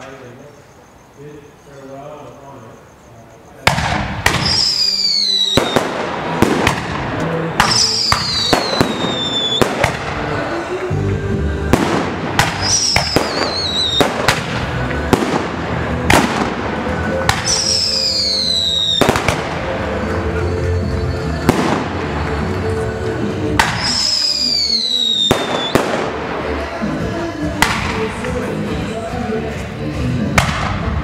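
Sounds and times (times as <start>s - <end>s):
fireworks whistling: 0.0s - 29.3s
fireworks bangs and crackles: 3.6s - 31.0s
music: 4.6s - 31.0s.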